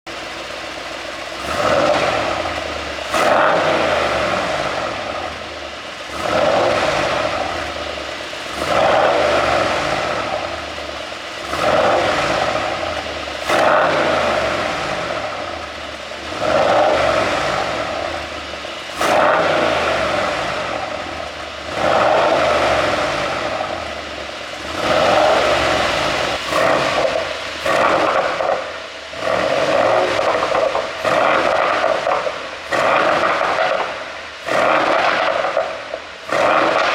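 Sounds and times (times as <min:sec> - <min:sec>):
car engine revving: 0:00.0 - 0:36.9
exhaust pops and crackles: 0:00.0 - 0:36.9.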